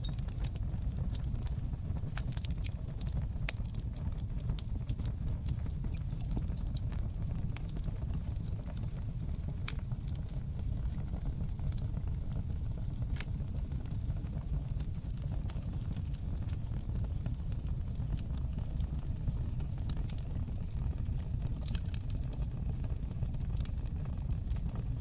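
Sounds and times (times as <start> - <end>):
wood fire crackling in a fireplace: 0.0 - 25.0.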